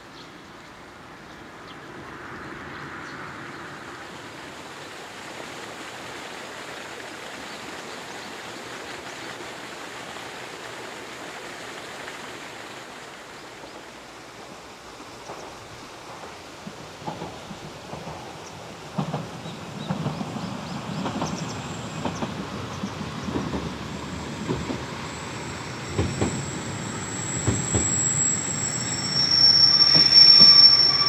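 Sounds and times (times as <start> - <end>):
steady hiss of water: 0.0 - 31.0.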